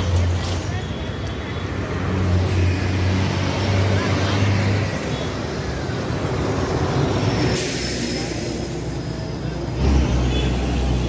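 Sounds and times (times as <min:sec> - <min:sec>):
road traffic passing: 0:00.0 - 0:11.0
vehicle engine drone: 0:00.0 - 0:11.0.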